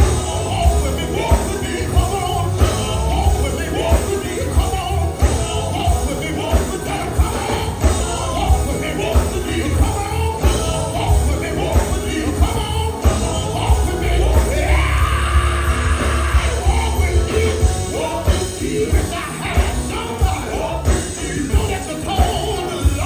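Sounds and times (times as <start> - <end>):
live gospel band music: 0.0 - 23.0
person singing and shouting: 0.0 - 23.0.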